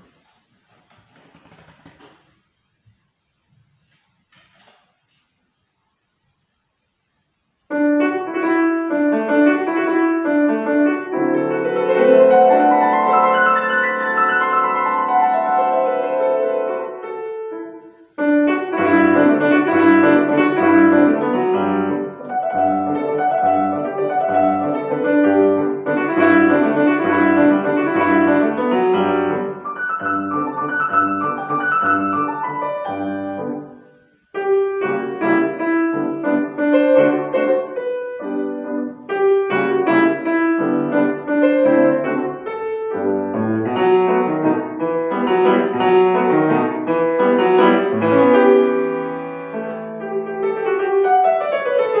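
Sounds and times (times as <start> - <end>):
solo piano classical piece: 0.0 - 52.0.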